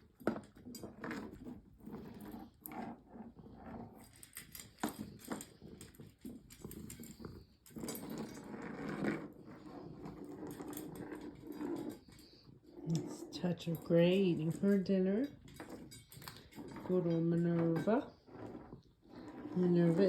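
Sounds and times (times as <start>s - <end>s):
cats chewing and crunching food: 0.0s - 20.0s.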